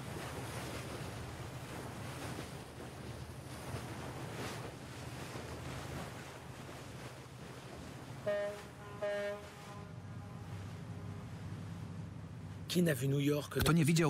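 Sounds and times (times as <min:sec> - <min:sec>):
water rushing along hull: 0:00.0 - 0:14.0
wind: 0:00.0 - 0:14.0.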